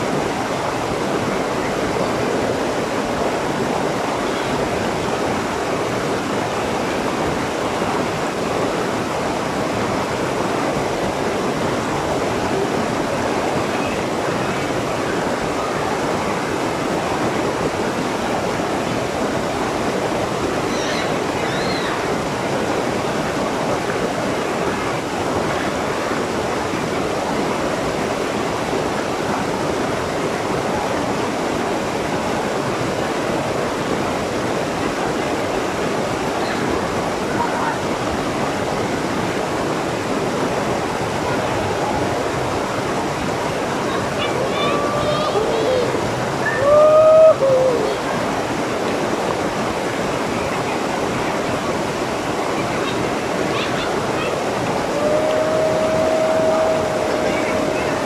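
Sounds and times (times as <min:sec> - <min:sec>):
waterfall rushing over boulders: 0:00.0 - 0:58.0.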